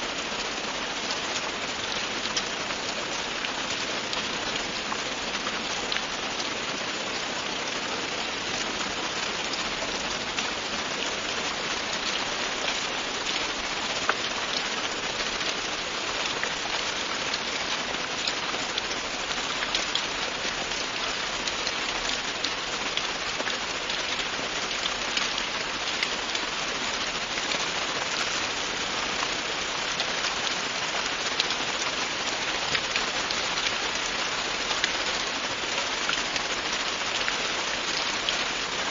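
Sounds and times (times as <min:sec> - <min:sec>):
raindrops ticking on a surface: 0:00.0 - 0:38.9
steady rainfall: 0:00.0 - 0:38.9.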